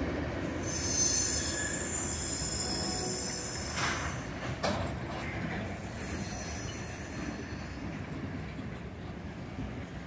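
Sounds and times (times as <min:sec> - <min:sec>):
freight train wheels on rails: 0:00.0 - 0:10.0.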